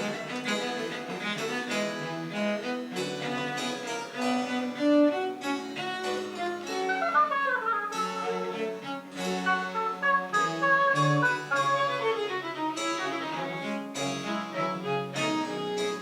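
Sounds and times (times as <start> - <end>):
baroque string ensemble: 0.0 - 16.0.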